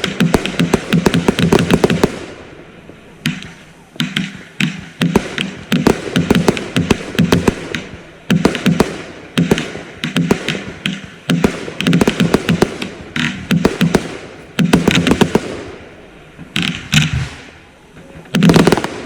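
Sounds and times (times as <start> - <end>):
fireworks bangs and cracks: 0.0 - 19.0.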